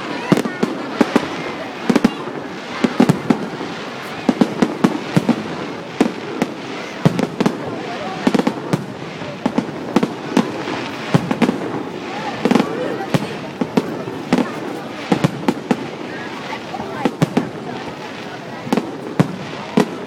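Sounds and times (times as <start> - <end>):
fireworks bangs and pops: 0.0 - 20.0.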